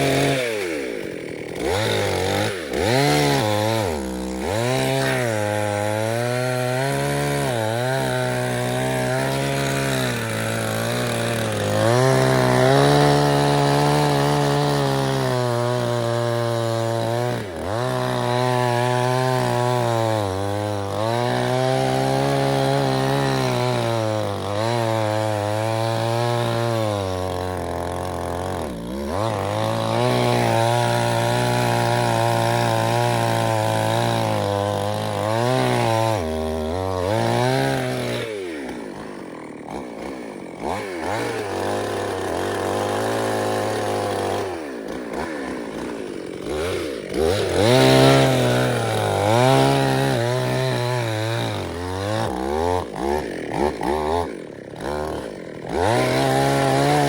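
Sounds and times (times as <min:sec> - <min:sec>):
chainsaw running under load: 0:00.0 - 0:57.0.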